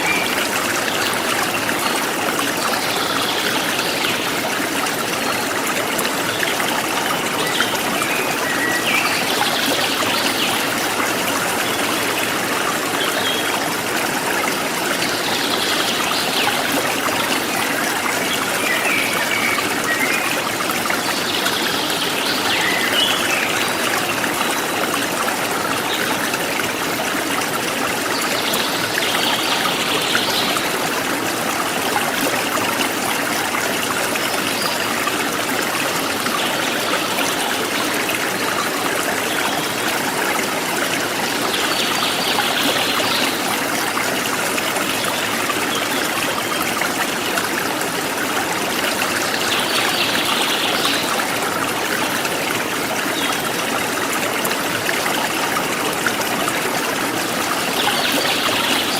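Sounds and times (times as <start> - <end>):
forest stream running: 0.0 - 58.9.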